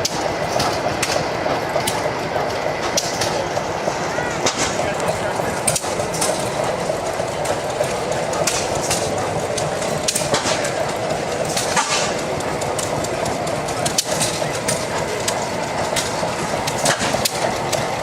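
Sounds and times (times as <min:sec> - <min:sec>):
sharp clicks and knocks: 0:00.0 - 0:03.6, 0:04.4 - 0:18.0
engine running: 0:00.0 - 0:18.0.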